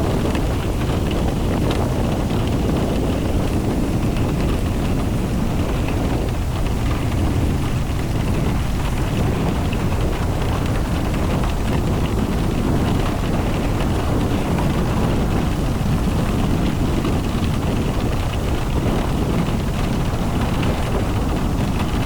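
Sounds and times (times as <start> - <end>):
road and wind rumble: 0.0 - 22.0.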